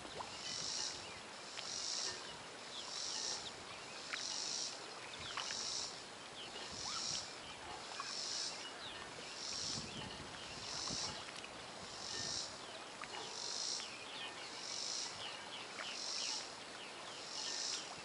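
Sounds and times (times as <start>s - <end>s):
insects calling in a pulse: 0.0s - 18.0s.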